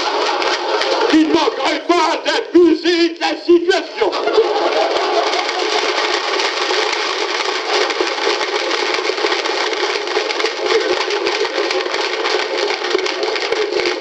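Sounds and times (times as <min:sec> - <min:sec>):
audience applause: 0:00.0 - 0:14.0.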